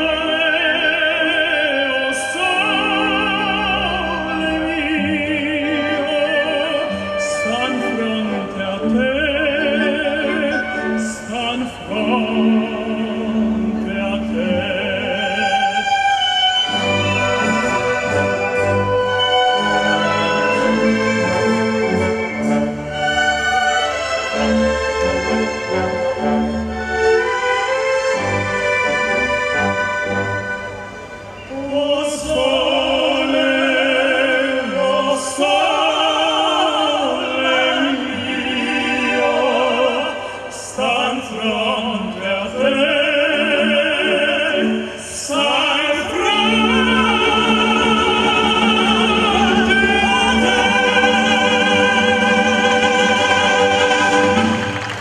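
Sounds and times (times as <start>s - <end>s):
operatic tenors singing: 0.0s - 55.0s
symphony orchestra: 0.0s - 55.0s.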